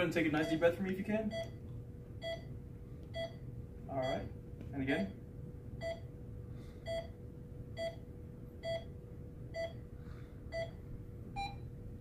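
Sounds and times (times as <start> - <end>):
faint steady hum: 0.0 - 12.0
patient monitor beeping: 0.3 - 5.2, 5.8 - 6.2, 6.8 - 9.9, 10.5 - 11.8.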